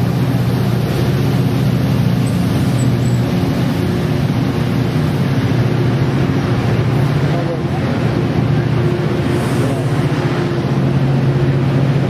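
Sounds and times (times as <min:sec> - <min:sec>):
diesel locomotive hum: 0:00.0 - 0:12.0
train wheels rumbling on rails: 0:00.0 - 0:12.0.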